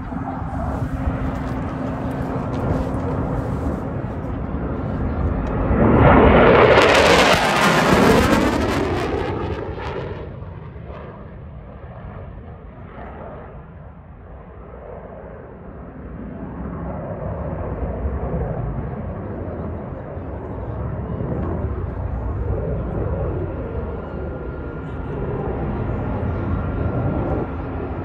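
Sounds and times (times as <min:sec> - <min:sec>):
distant jet rumble: 0:00.0 - 0:28.0
fighter jet passing overhead: 0:00.0 - 0:28.0.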